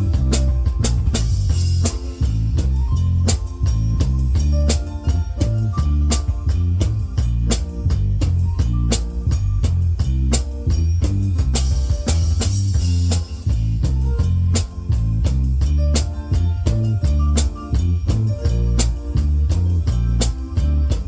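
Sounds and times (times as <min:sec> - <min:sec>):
drum kit beat: 0:00.0 - 0:21.0
heavy bass line: 0:00.0 - 0:21.0.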